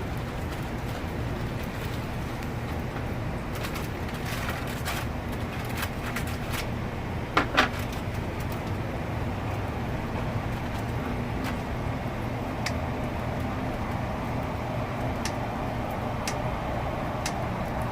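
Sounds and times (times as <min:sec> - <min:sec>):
low traffic rumble: 0:00.0 - 0:17.9.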